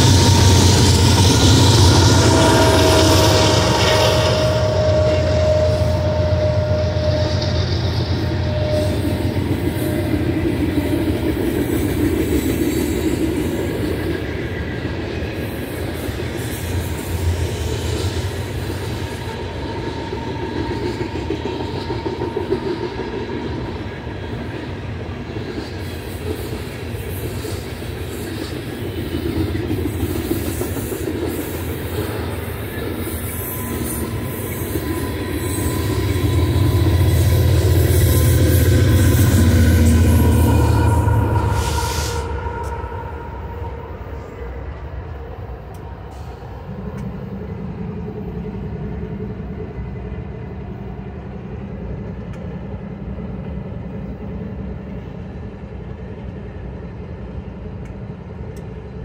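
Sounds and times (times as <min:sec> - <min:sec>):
faint high wheel squeal: 0:00.0 - 0:48.6.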